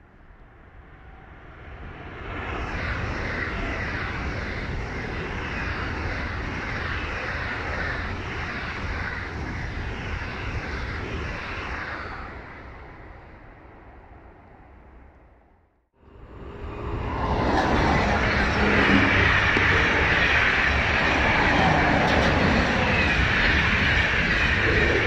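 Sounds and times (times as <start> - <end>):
high-speed train passing: 0.2 - 25.0.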